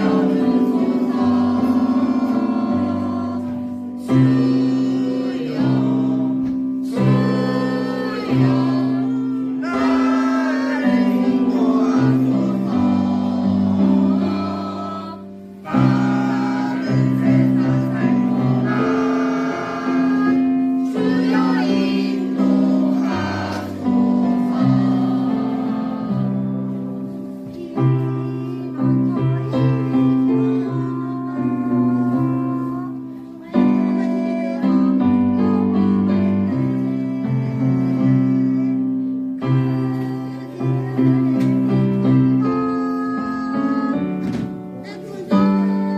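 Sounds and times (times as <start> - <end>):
choir singing a hymn: 0.0 - 45.9
keyboard accompaniment: 0.0 - 45.9.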